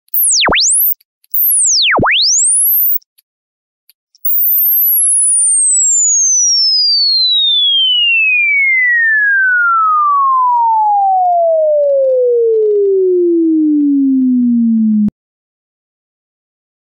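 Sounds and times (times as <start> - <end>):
sine tone sweeping downward: 0.1 - 3.0, 4.2 - 15.1.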